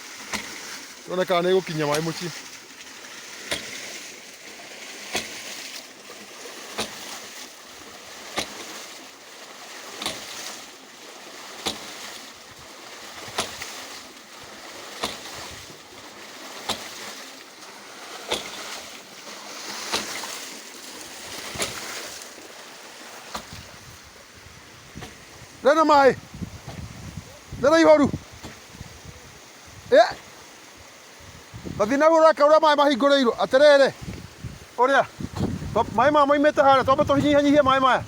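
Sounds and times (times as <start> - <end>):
rush of flowing water: 0.0 - 38.0.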